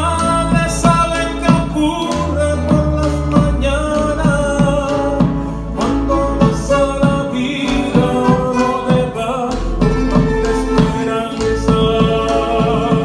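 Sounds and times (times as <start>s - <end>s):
acoustic guitars strummed: 0.0s - 13.0s
men singing together: 0.2s - 13.0s.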